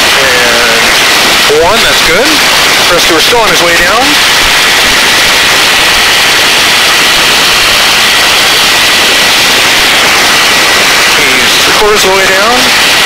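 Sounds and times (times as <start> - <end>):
helicopter rotor and engine noise: 0.0 - 13.0
high whine: 0.0 - 13.0.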